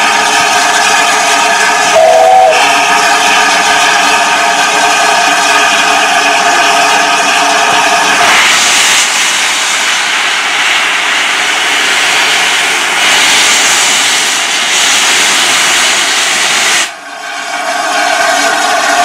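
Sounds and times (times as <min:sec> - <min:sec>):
loud steam hiss: 0:00.0 - 0:19.0.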